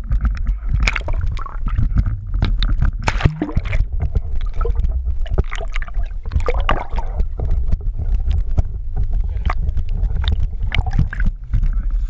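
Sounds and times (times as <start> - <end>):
muffled underwater rumble: 0.0 - 12.0
underwater knocks and clicks: 0.0 - 12.0.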